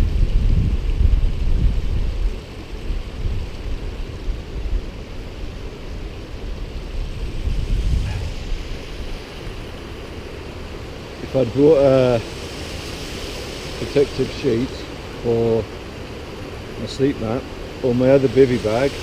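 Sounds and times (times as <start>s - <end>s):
wind buffeting microphone: 0.0s - 19.0s
river and waterfall rushing: 2.0s - 19.0s.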